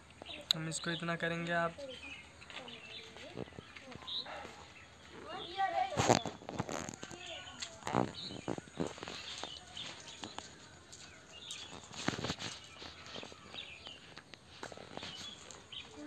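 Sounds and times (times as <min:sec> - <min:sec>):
bird chirps: 0:00.2 - 0:16.0.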